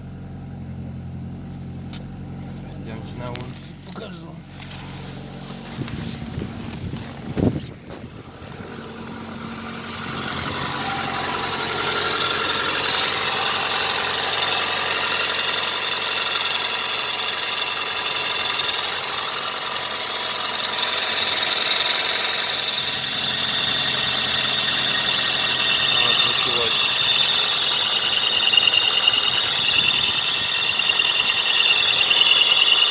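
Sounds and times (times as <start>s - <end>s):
car engine idling: 0.0s - 32.9s
power steering pump grinding squeal: 1.4s - 32.9s.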